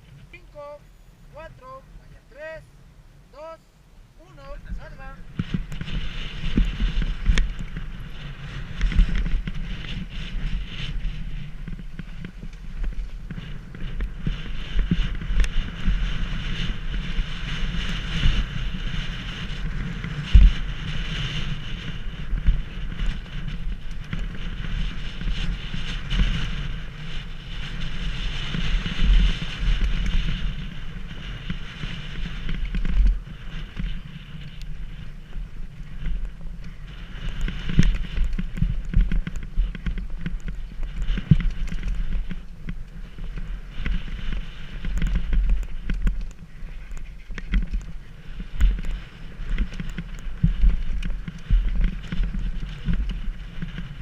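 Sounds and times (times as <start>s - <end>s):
wind buffeting microphone: 0.0s - 54.0s
bike rattling: 4.3s - 54.0s.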